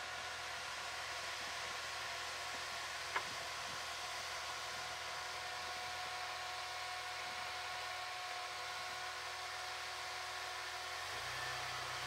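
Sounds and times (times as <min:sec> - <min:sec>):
car engine low hum: 0:00.0 - 0:12.0.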